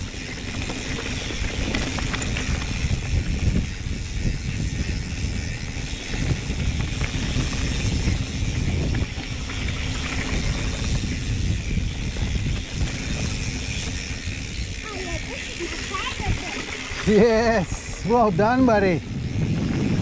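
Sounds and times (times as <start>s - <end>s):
tyres rumbling on dirt: 0.0s - 4.1s, 4.9s - 20.0s
bike rattling and clicking: 0.0s - 20.0s
wind on microphone: 0.0s - 20.0s.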